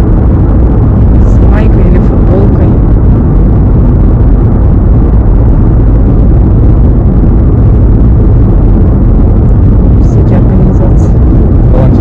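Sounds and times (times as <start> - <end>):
car driving rumble: 0.0 - 12.0
road and wind noise: 0.0 - 12.0.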